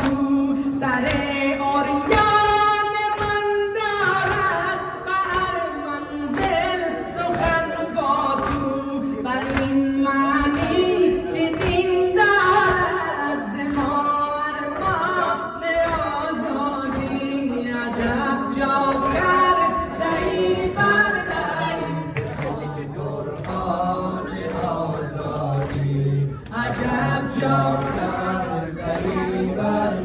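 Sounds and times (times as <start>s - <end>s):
crowd of men singing: 0.0s - 30.0s.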